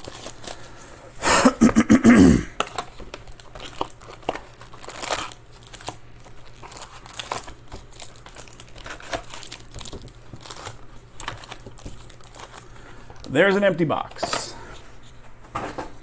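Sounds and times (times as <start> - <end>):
foil wrappers crinkling and tearing: 0.0 - 1.0, 2.6 - 15.2.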